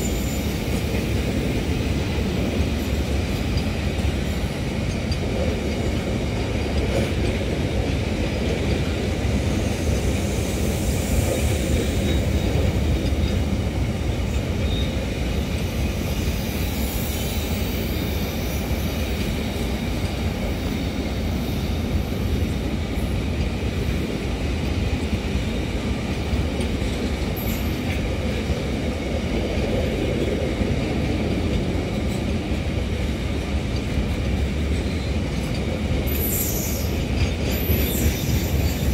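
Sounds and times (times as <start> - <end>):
freight wagons rumbling on rails: 0.0 - 38.9.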